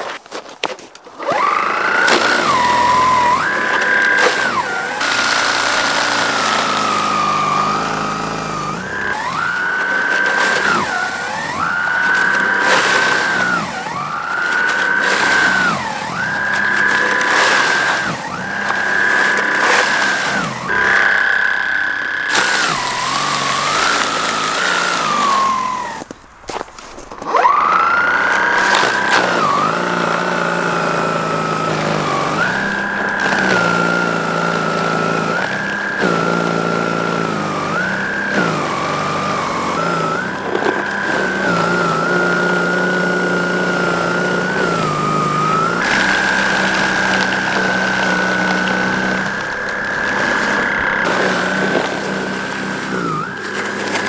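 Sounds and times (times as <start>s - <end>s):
snow blower motor whine: 0.0s - 54.0s.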